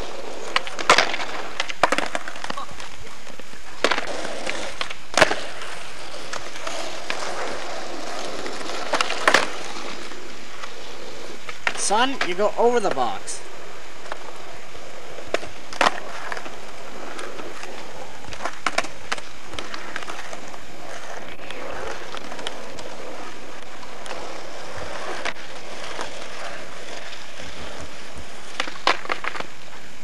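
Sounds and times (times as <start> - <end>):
skateboard clacking on pavement: 0.0 - 30.0
skateboard wheels rolling on asphalt: 0.0 - 30.0.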